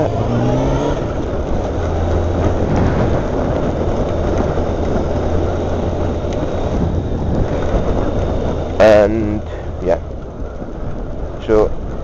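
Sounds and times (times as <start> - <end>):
motorcycle engine drone: 0.0 - 12.0
wind noise rushing: 0.0 - 12.0.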